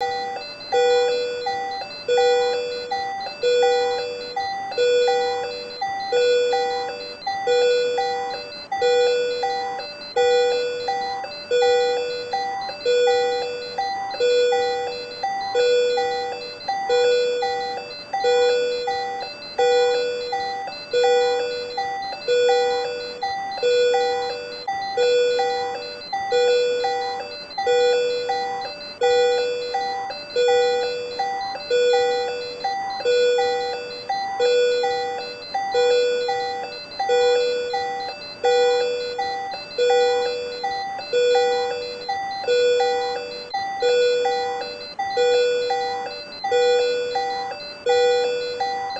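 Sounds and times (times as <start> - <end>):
monitor alarm electronic chime: 0.0 - 48.9.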